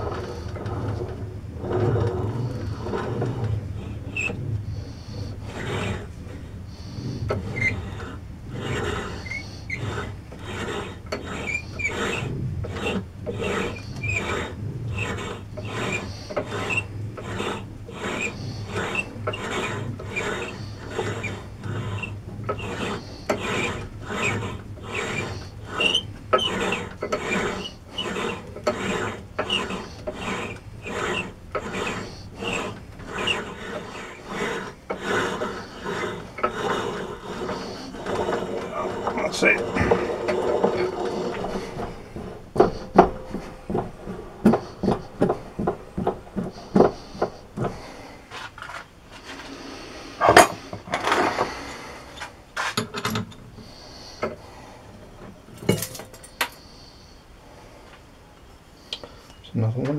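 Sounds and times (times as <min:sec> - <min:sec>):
reamer scraping metal: 0:00.0 - 0:57.1.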